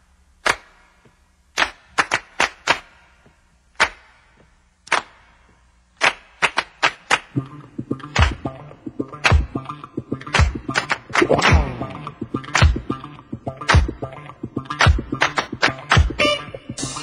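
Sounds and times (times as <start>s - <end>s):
hand claps: 0.4s - 8.5s, 9.2s - 13.0s, 13.6s - 16.2s.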